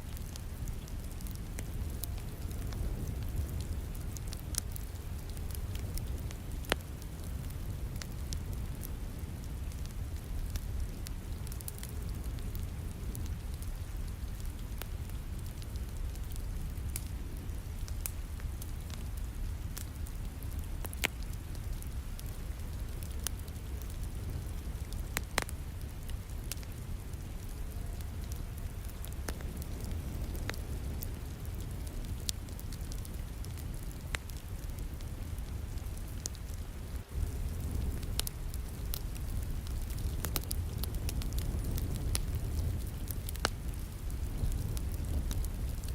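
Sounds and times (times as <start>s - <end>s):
rain-like hiss: 0.0s - 45.9s
wood fire crackling: 0.0s - 45.9s.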